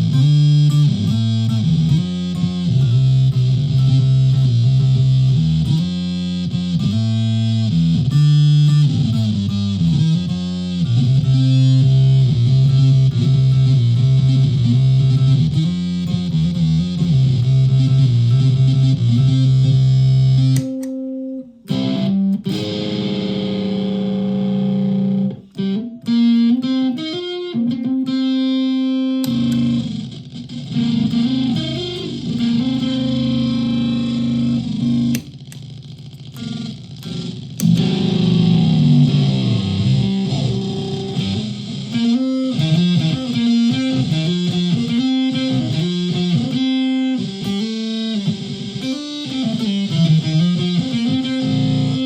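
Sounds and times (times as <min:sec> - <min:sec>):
distorted electric ukulele: 0:00.0 - 0:52.0.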